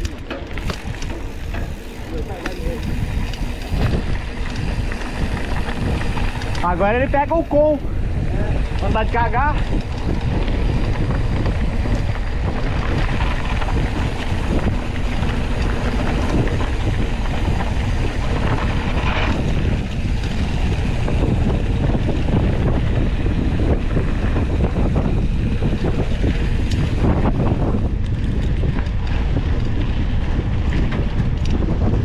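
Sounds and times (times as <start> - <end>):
bike rattling over rough trail: 0.0 - 32.0
wind buffeting microphone: 0.0 - 32.0.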